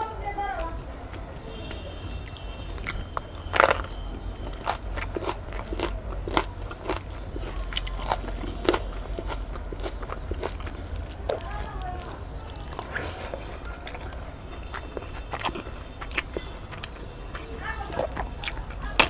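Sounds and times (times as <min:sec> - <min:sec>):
person chewing crunchy food: 0:02.2 - 0:19.0.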